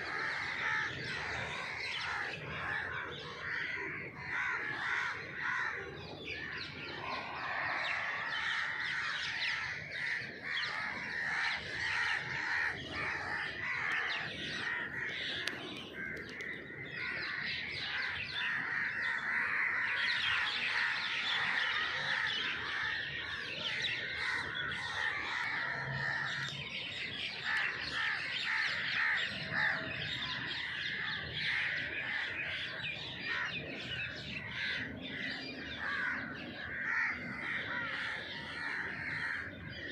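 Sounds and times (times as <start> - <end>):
chorus of birds calling: 0.0 - 39.9.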